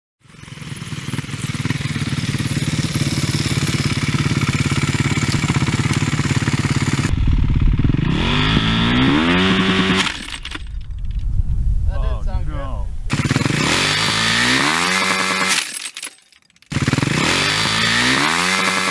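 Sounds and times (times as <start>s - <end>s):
dirt bike engine idling and revving: 0.2s - 10.8s, 13.1s - 15.9s, 16.7s - 18.9s.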